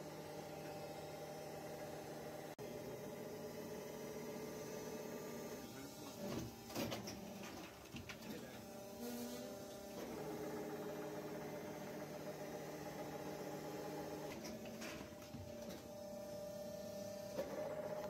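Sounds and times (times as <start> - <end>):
machine mechanical hum: 0.0 - 18.0.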